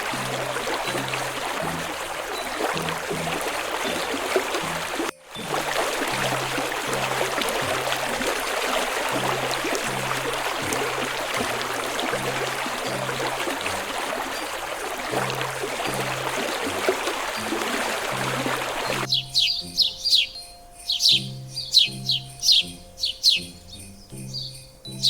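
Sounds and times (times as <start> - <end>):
soft low musical notes: 0.0 - 25.0
water flowing: 0.0 - 25.0.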